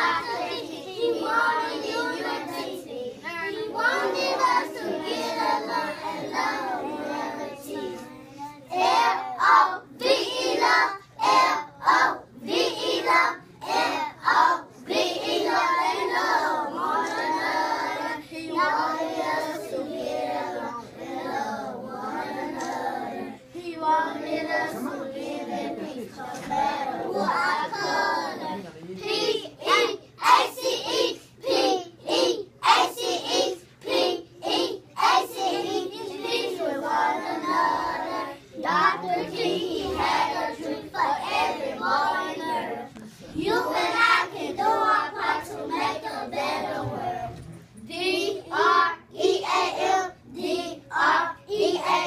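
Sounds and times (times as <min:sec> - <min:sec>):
children singing together: 0:00.0 - 0:52.0.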